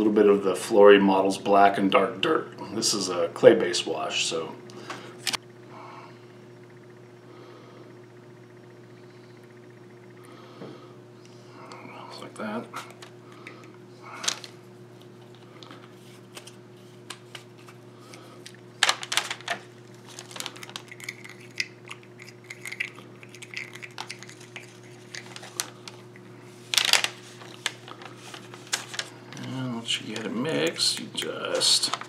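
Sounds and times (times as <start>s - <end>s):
low hum: 2.4s - 31.2s.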